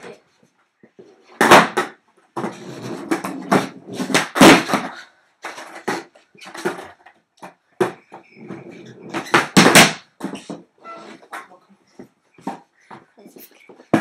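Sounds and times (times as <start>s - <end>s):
skateboard clacking on floor: 0.9s - 14.0s.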